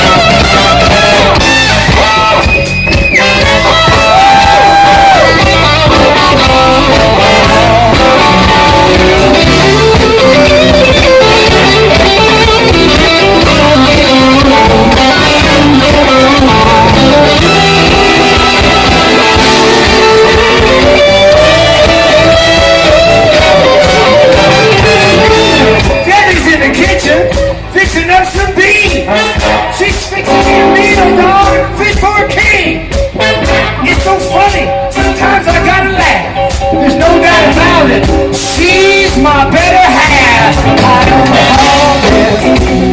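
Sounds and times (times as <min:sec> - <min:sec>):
lead guitar bending notes: 0:00.0 - 0:27.8, 0:28.9 - 0:42.9
blues band playing: 0:00.0 - 0:42.9.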